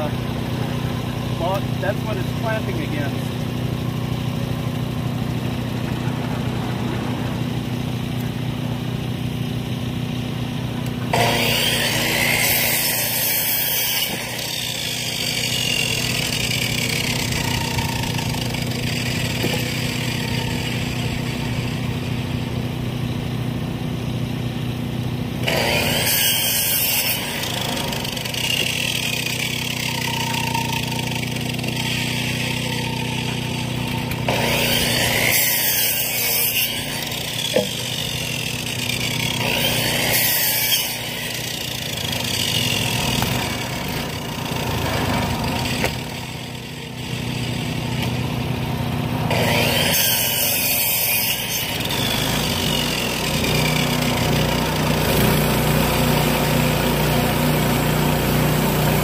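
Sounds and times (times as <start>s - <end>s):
band saw blade cutting timber: 0.0s - 59.0s
sawmill engine running: 0.0s - 59.0s.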